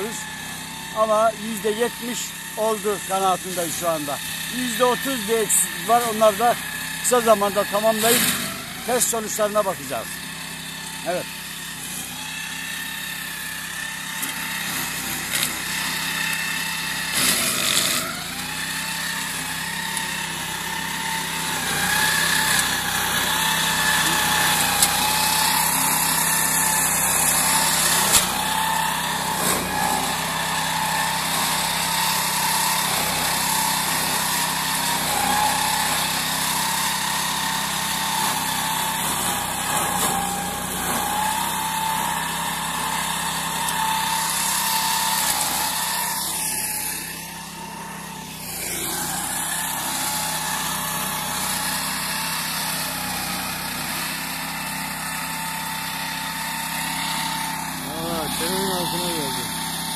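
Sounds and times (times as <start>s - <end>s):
mower engine running: 0.0s - 59.9s.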